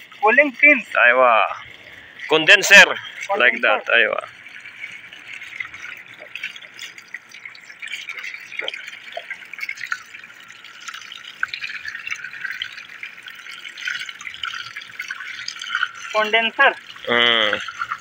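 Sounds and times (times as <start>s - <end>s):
hose water running: 0.0s - 18.0s
water dripping and splashing: 0.0s - 18.0s.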